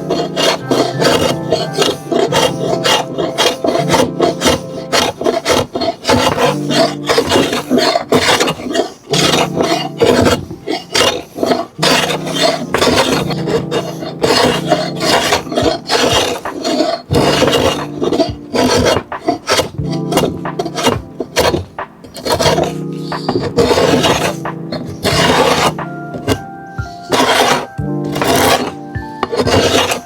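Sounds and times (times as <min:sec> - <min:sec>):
hand tool rasping on wood: 0:00.0 - 0:30.0.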